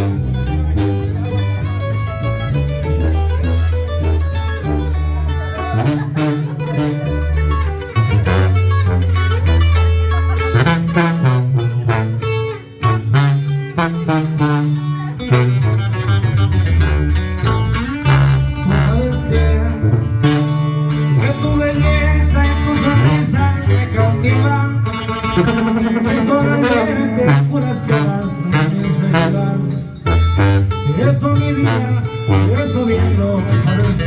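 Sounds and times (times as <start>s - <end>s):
plucked acoustic guitars: 0.0s - 34.0s
tuba bass line: 0.0s - 34.0s.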